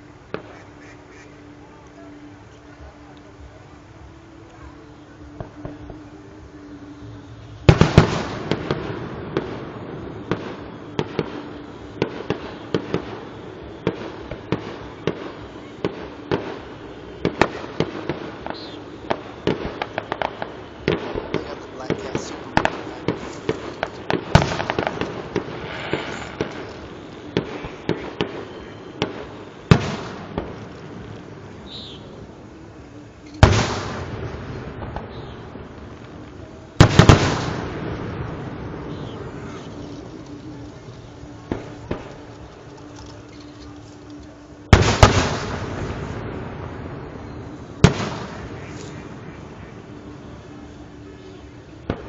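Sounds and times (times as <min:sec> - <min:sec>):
fireworks crackling: 0:00.0 - 0:52.0
fireworks bangs and cracks: 0:07.6 - 0:32.4, 0:33.2 - 0:50.2, 0:50.9 - 0:52.0.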